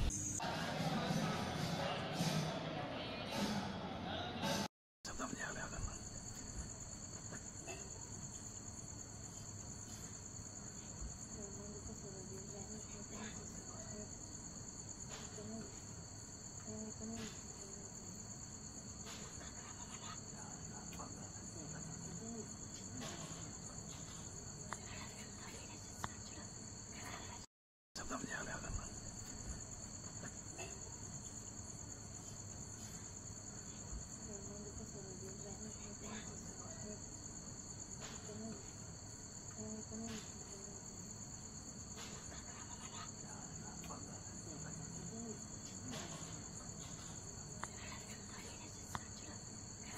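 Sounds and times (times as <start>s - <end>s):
crickets trilling: 5.1s - 49.9s.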